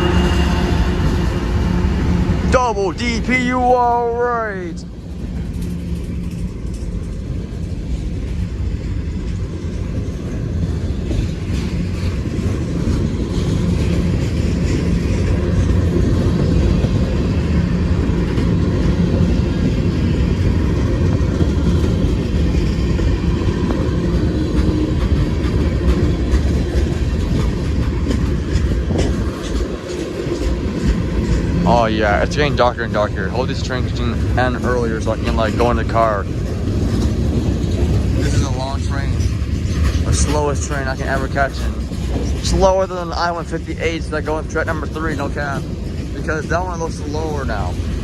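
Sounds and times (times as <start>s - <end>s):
diesel locomotive drone: 0.0s - 48.0s
train wheels rumbling on rail: 0.0s - 48.0s.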